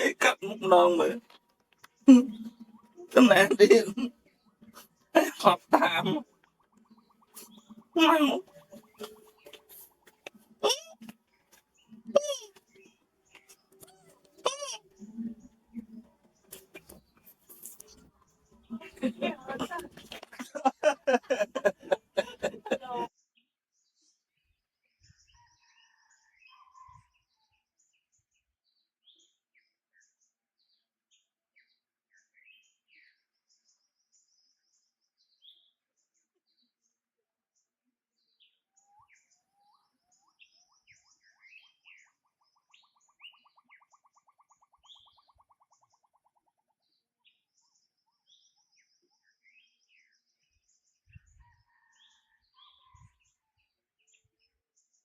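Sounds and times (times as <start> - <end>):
birds chirping and tweeting: 0.0 - 36.7, 38.2 - 55.0.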